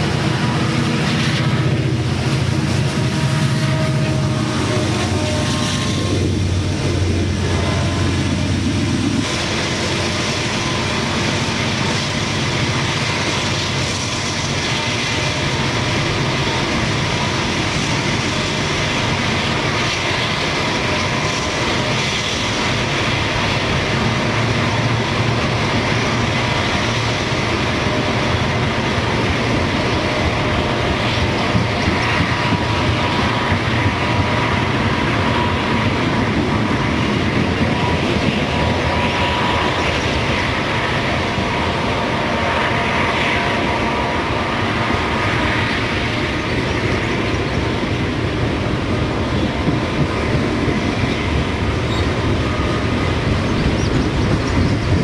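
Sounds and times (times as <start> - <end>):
diesel locomotive engine drone: 0.0 - 55.0
train wheels rumbling on rail: 0.0 - 55.0.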